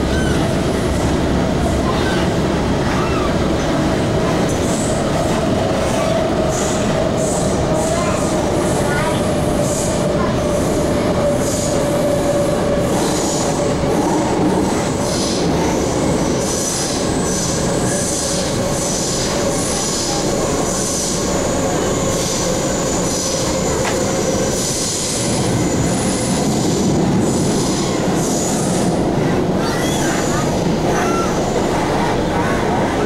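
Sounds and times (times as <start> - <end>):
rumble of train wheels on rail: 0.0 - 33.0.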